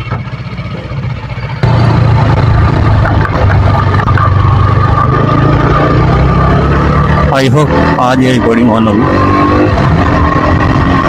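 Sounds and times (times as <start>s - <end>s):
motorcycle engine drone: 0.0s - 11.0s.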